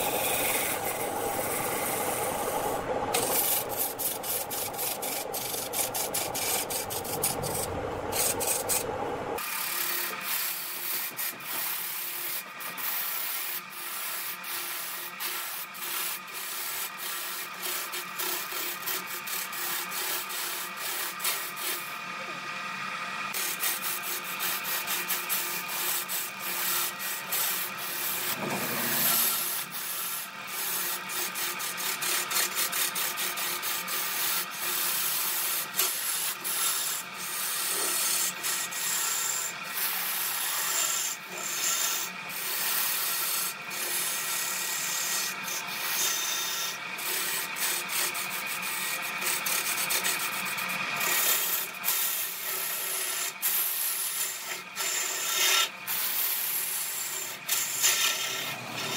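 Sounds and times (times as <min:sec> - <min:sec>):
wood lathe tool scraping: 0:00.0 - 0:22.2, 0:22.8 - 0:58.9.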